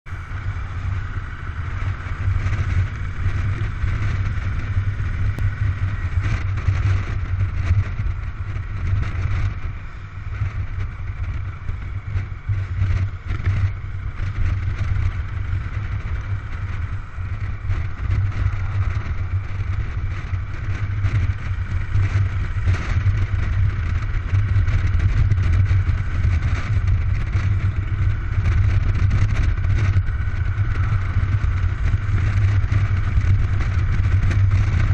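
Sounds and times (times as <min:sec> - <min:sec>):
road noise: 0:00.0 - 0:34.9
motorcycle engine running: 0:00.1 - 0:34.9.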